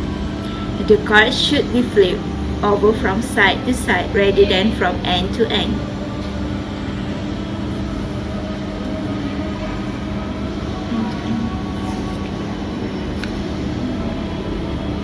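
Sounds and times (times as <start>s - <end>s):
air conditioning hum: 0.0s - 15.0s.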